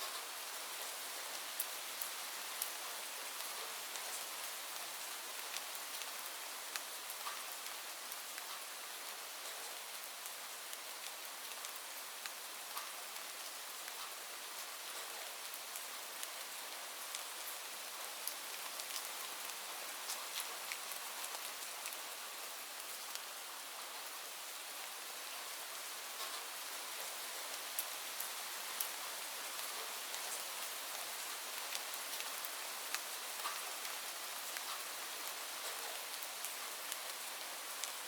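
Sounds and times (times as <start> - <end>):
raindrops ticking on hard surfaces: 0.1 - 23.8, 25.2 - 38.0.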